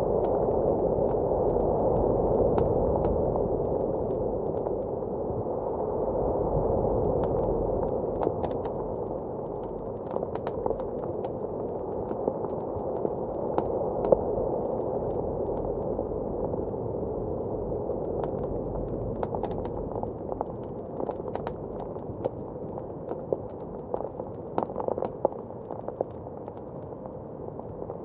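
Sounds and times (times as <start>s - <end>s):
wood fire crackling and popping: 0.0s - 5.7s, 6.8s - 28.0s
muffled blizzard wind: 0.0s - 28.0s.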